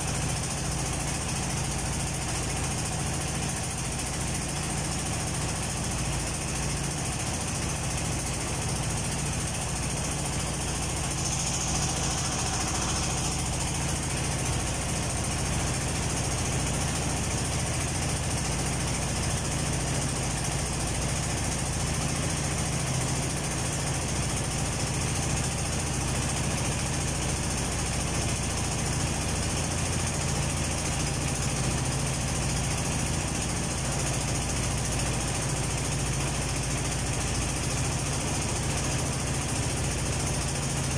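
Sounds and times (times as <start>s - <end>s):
motorboat engine running: 0.0s - 40.9s.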